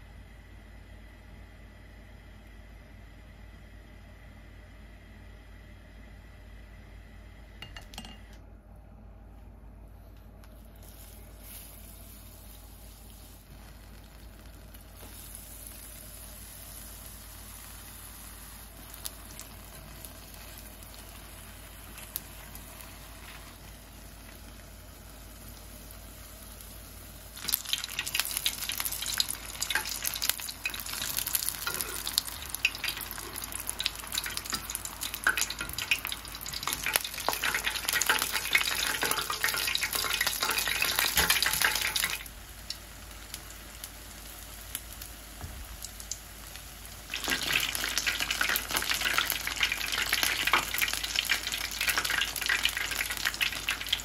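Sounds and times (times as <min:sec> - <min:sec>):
food deep-frying in hot oil: 0:10.6 - 0:54.0.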